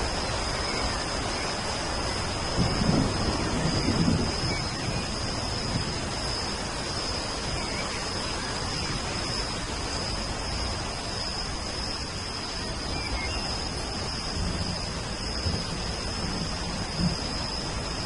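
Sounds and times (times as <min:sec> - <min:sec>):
high insect trill: 0:00.0 - 0:18.0
steady rain falling: 0:00.0 - 0:18.0.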